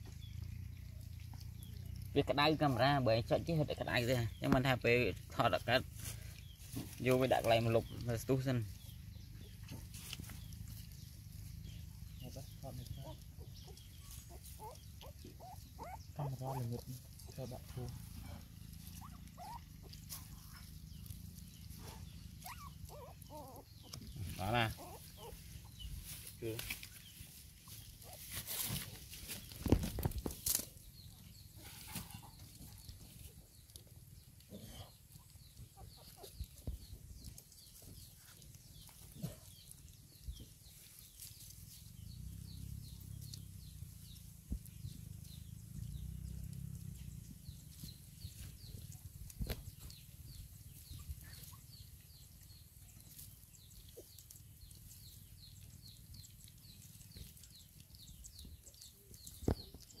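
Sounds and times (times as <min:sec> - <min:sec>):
puppies lapping and smacking: 0:00.0 - 0:02.8, 0:06.2 - 0:46.2, 0:46.8 - 1:00.0.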